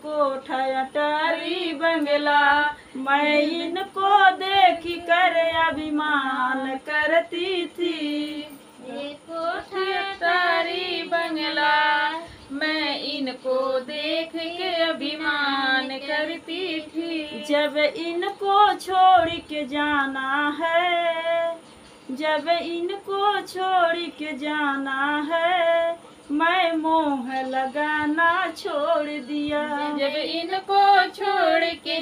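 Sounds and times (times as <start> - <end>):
women singing unaccompanied: 0.0 - 32.0.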